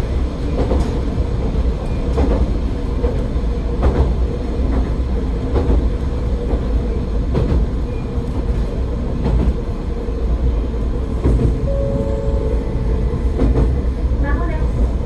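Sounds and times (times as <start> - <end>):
diesel railcar rumbling: 0.0 - 15.0.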